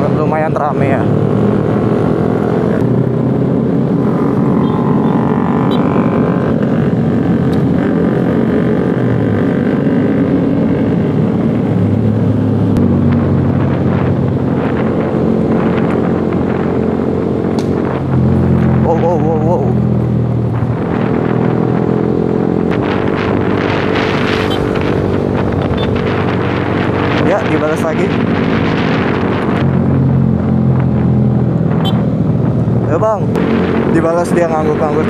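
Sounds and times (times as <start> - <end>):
wind noise on microphone: 0.0 - 34.8
motorcycle engine accelerating: 0.0 - 35.0
other motorcycles in traffic: 0.0 - 35.0.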